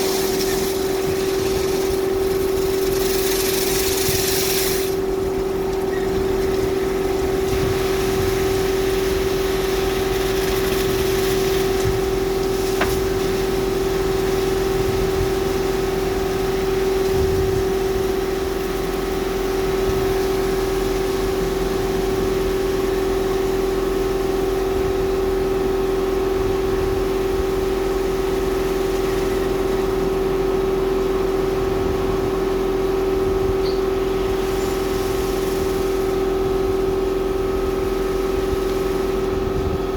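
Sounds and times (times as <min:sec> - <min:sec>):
car wash machinery humming: 0:00.0 - 0:39.9.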